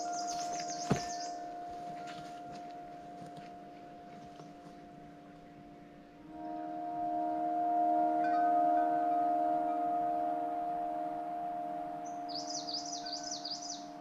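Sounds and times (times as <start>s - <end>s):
bird singing: 0.0s - 7.1s, 7.7s - 14.0s
ringing bell tones: 0.0s - 14.0s.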